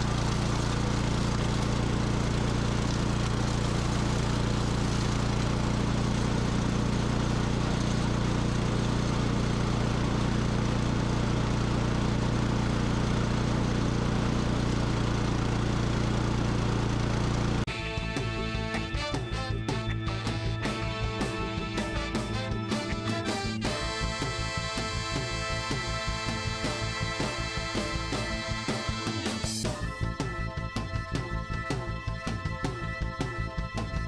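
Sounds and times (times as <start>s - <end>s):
mower engine droning: 0.0s - 34.0s.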